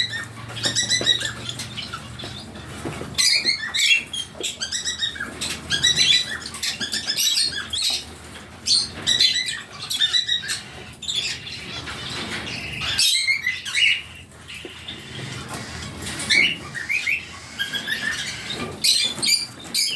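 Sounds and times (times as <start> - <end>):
lovebirds chirping: 0.0 - 19.9.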